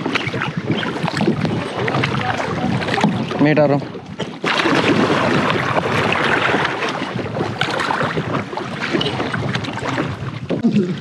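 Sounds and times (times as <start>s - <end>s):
water splashing around a kayak: 0.0s - 11.0s.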